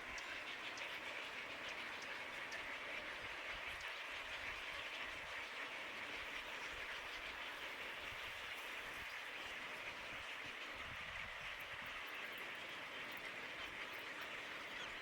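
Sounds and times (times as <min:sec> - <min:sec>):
continuous outdoor hiss: 0:00.0 - 0:15.0.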